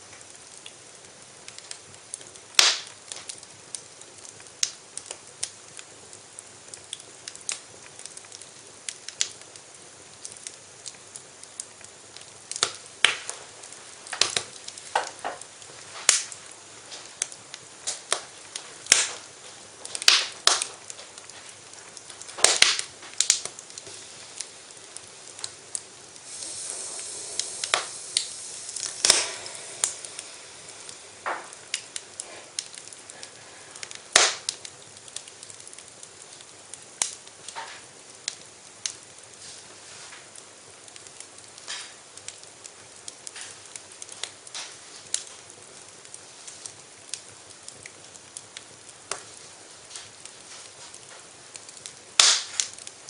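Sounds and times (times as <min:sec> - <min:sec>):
faint steady hiss: 0:00.0 - 0:53.0
fire popping: 0:00.0 - 0:53.0
wood fire crackling: 0:00.0 - 0:53.0.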